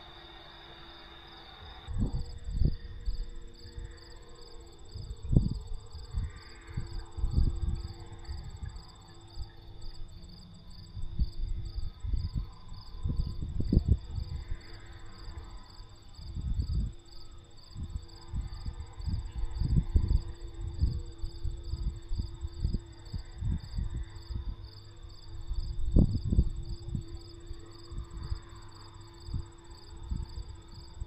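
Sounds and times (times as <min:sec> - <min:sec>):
crickets chirping: 0:00.0 - 0:31.0
high insect trill: 0:00.0 - 0:31.0
wind buffeting microphone: 0:01.9 - 0:31.0.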